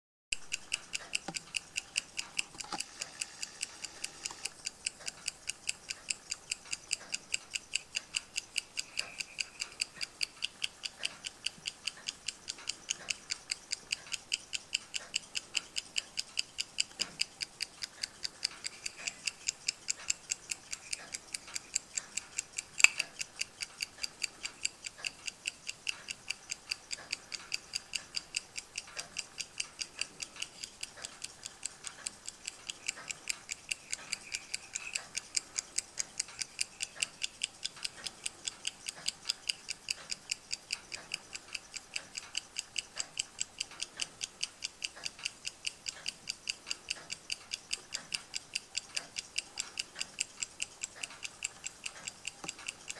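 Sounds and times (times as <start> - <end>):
pocket watch ticking: 0.3 - 52.9.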